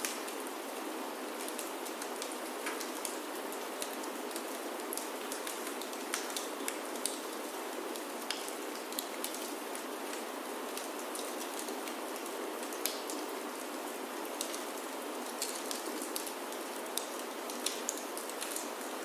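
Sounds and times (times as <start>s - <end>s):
rain on a wooden roof: 0.0s - 19.0s.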